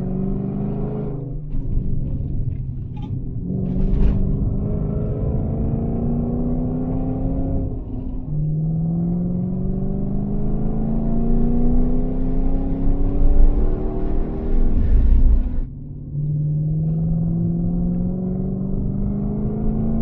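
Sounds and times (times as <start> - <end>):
car engine accelerating and shifting: 0.0 - 20.0.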